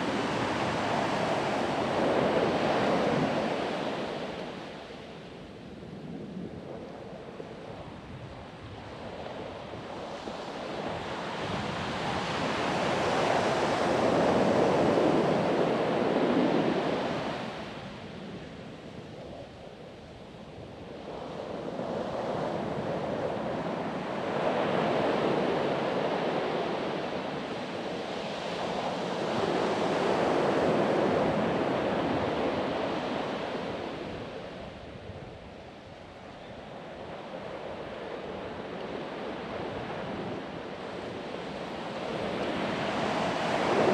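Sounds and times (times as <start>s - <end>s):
ocean surf breaking on beach: 0.0s - 5.4s, 8.9s - 19.0s, 20.9s - 43.9s.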